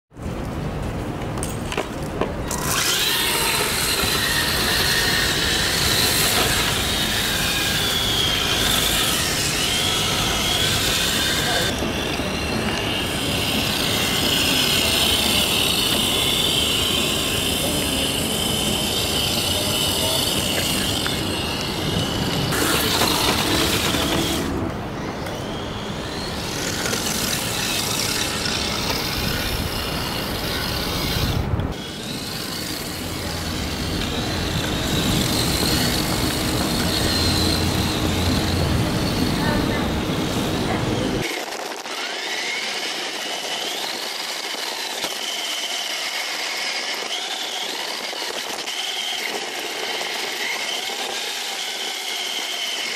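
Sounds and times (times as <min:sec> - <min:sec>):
tyres sliding on paving stones: 0:01.2 - 0:52.9
rc car electric motor whine: 0:02.4 - 0:52.9.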